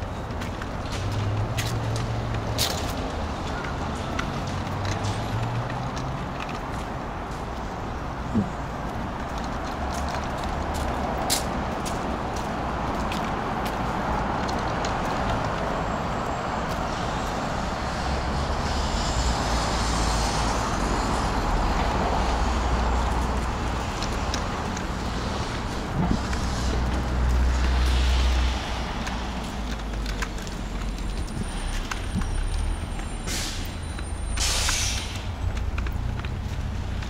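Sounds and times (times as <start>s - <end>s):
cars passing: 0.0s - 37.0s
heavy low vehicle rumble: 0.0s - 37.0s.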